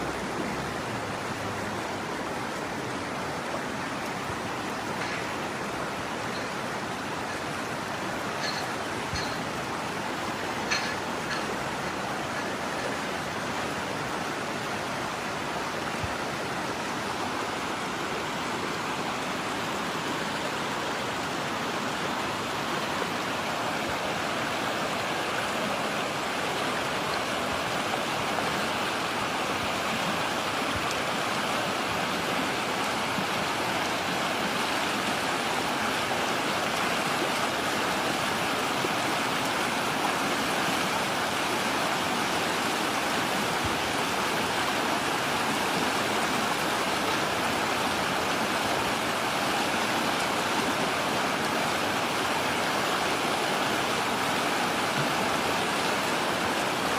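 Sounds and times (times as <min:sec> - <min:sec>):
rush of flowing water: 0:00.0 - 0:56.9.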